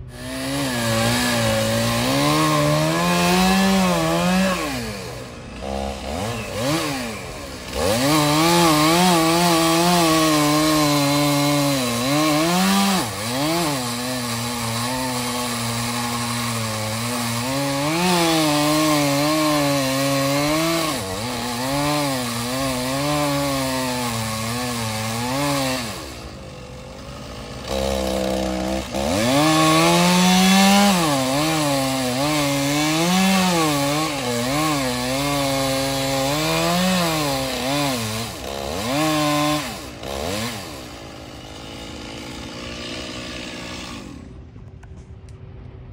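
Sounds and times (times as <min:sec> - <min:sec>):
chainsaw cutting wood: 0:00.0 - 0:45.7.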